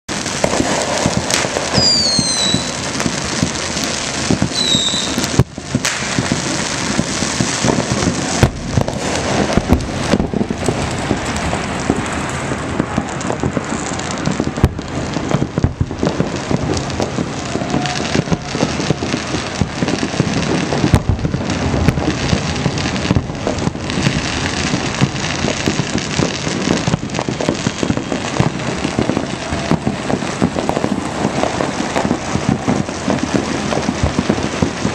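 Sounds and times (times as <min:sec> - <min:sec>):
firecrackers and fireworks crackling: 0:00.1 - 0:34.9
high falling firework whistles: 0:00.2 - 0:34.9.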